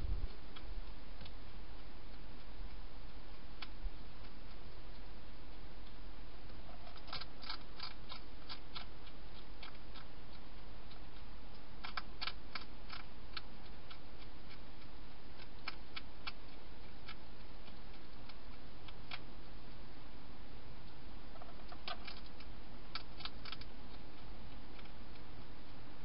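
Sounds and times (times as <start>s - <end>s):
steady hiss: 0.0s - 26.0s
hedgehog chewing crunches: 0.5s - 19.8s, 20.9s - 25.8s.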